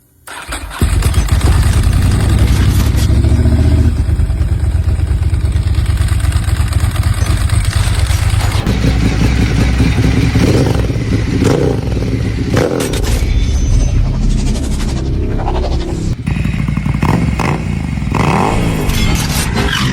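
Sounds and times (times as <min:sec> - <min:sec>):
loud motorcycle engine running: 0:00.7 - 0:19.9.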